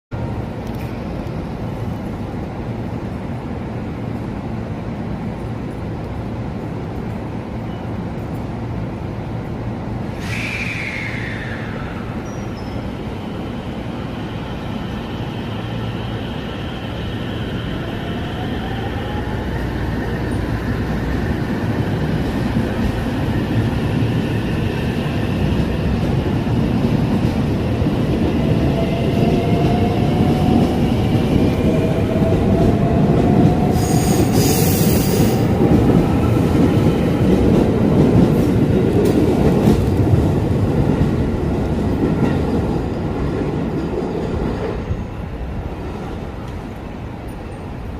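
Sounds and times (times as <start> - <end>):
train wheels rumbling: 8.2 - 47.9.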